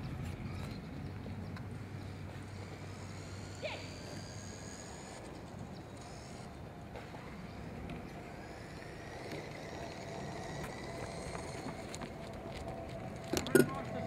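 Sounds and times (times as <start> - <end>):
outdoor background noise: 0.0 - 14.0
toy car electric motors whining: 1.8 - 14.0.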